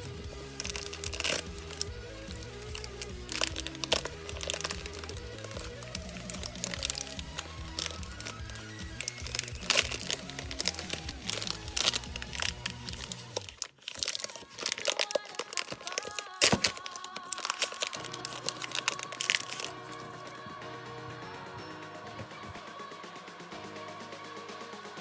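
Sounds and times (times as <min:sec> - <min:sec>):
slime crinkling and crackling: 0:00.0 - 0:20.6
background music: 0:00.0 - 0:25.0.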